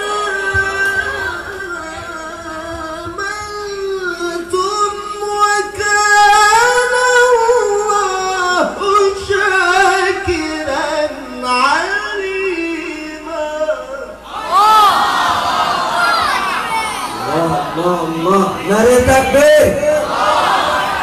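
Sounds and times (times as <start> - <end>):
man reciting melodically: 0.0 - 14.3, 17.1 - 20.4.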